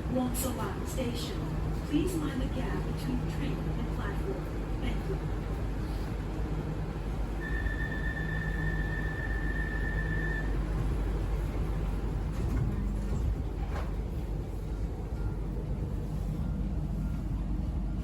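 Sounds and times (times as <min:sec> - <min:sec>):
train carriage hum: 0:00.0 - 0:18.0.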